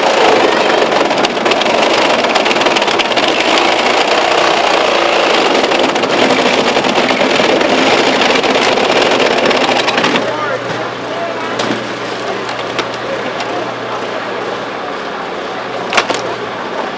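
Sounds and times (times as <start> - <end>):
hydraulic pump engine drone: 0.0 - 16.9.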